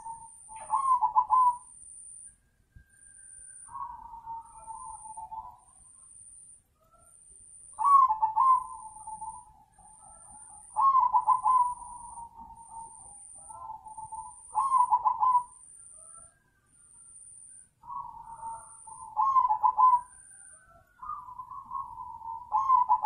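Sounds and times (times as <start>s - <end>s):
dove cooing song: 0.0s - 1.8s, 3.6s - 6.0s, 7.7s - 17.0s, 17.8s - 23.0s.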